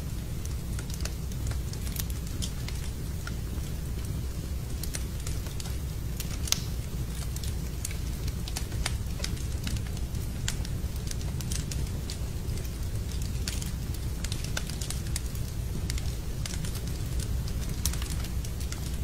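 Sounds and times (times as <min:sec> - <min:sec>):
low fire rumble: 0:00.0 - 0:19.0
wood fire crackling and popping: 0:00.0 - 0:19.0.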